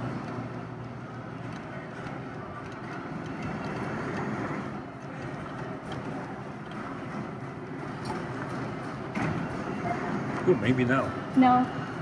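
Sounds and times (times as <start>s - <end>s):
arcade background noise: 0.0s - 12.0s.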